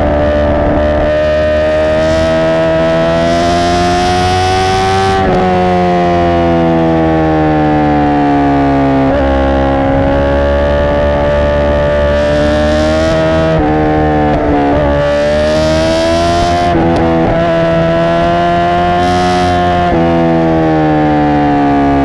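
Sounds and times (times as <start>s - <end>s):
motorcycle engine while riding: 0.0s - 22.0s.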